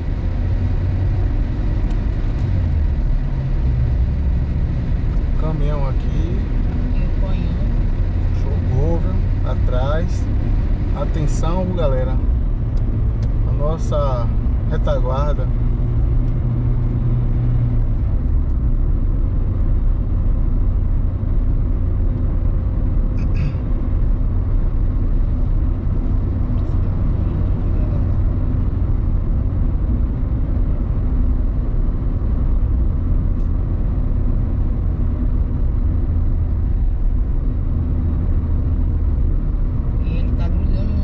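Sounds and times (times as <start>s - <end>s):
car driving rumble inside cabin: 0.0s - 41.0s.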